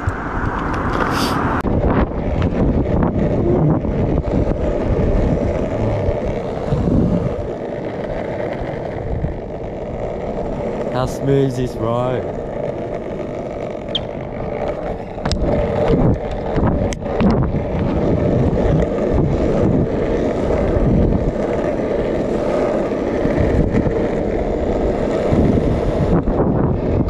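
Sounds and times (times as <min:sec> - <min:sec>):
longboard wheels rolling on asphalt: 0:00.0 - 0:27.0
wind buffeting microphone: 0:00.0 - 0:27.0.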